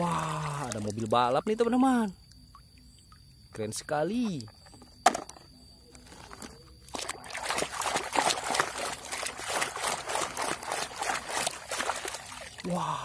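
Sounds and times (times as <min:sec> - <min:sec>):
water splashing and sloshing in bucket: 0:00.0 - 0:12.7.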